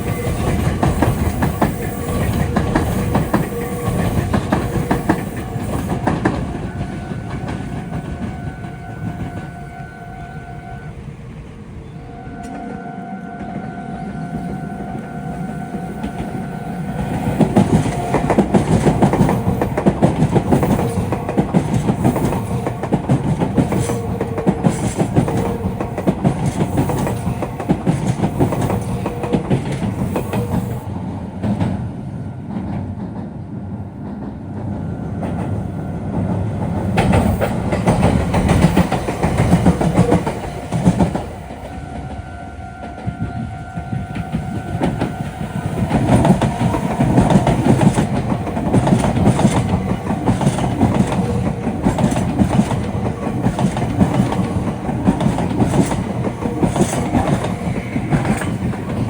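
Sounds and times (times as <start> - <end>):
train wheels clattering over rails: 0.0 - 10.0, 15.2 - 59.0.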